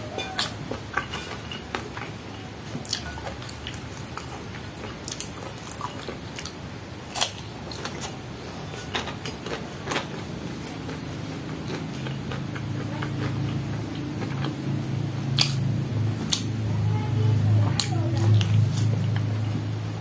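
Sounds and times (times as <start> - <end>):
person chewing food: 0.2 - 16.6, 17.8 - 19.6.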